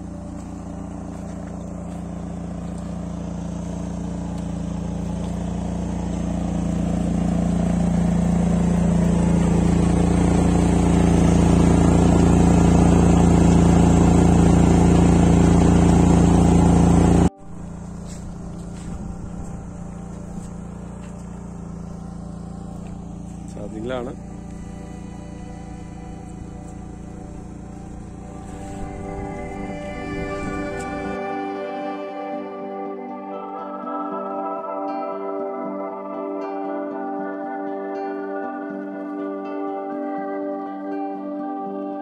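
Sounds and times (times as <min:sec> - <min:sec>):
generator engine humming: 0:00.0 - 0:42.0.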